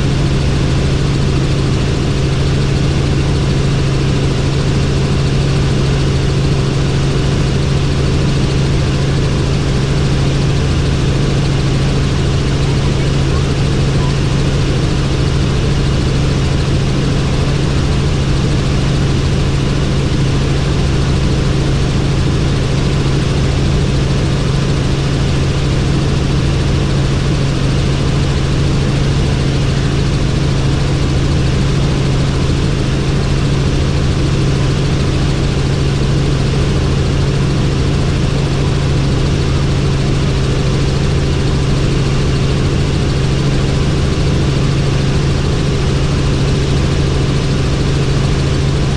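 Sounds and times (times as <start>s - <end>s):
helicopter engine and rotors: 0.0s - 48.9s.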